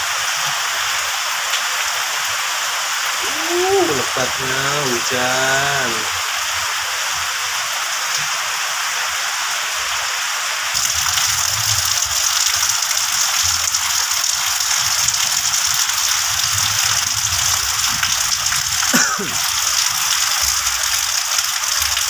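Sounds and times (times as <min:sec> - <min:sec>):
heavy rain on foliage: 0:00.0 - 0:22.0.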